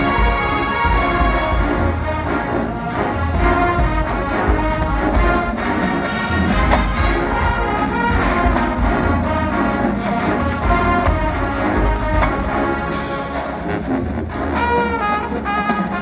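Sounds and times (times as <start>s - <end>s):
marching band playing: 0.0s - 16.0s.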